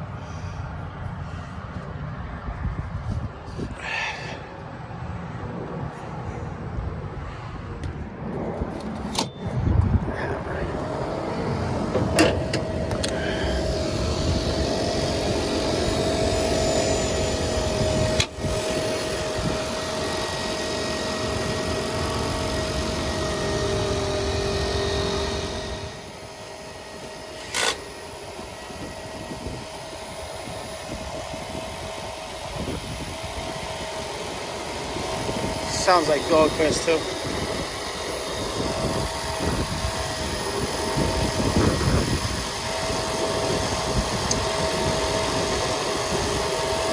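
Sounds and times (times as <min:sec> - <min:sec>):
blower rumble with whine: 0:00.0 - 0:46.9.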